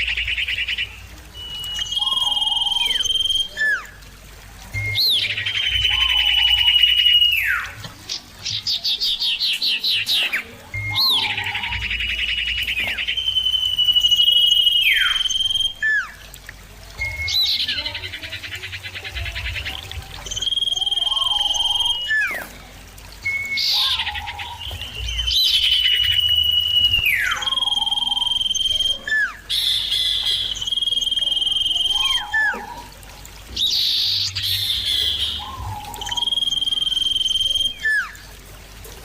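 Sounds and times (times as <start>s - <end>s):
bird singing trills and whistles: 0.0s - 4.0s, 4.7s - 16.3s, 16.9s - 22.6s, 23.2s - 38.4s.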